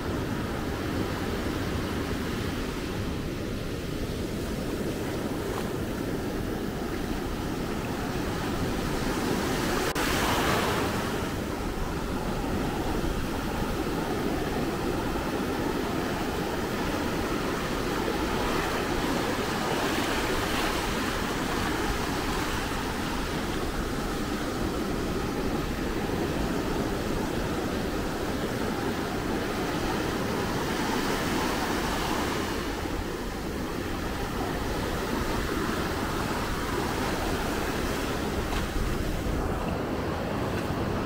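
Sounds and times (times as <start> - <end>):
waves breaking on beach: 0.0 - 41.0.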